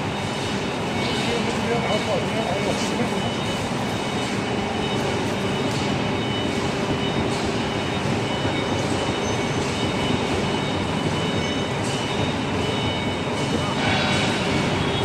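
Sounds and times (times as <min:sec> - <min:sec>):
high machine whine: 0:00.0 - 0:15.0
hydraulic machine humming: 0:00.0 - 0:15.0.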